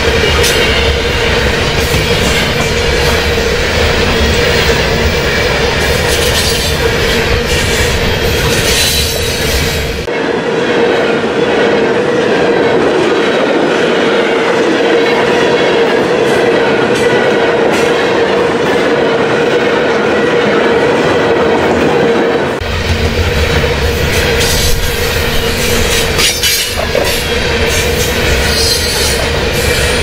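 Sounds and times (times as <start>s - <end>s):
freight train wheels on rails: 0.0s - 30.0s.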